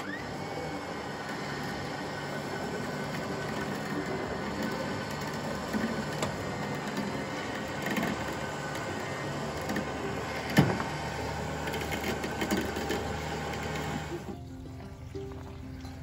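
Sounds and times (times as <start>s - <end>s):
motor running with faint whine: 0.0s - 16.0s.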